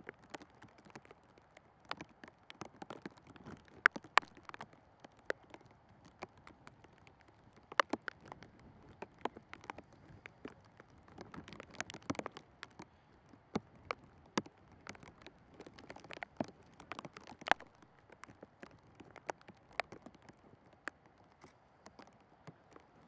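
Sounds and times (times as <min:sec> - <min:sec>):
faint steady hiss: 0:00.0 - 0:23.0
light taps and clicks: 0:00.0 - 0:23.0.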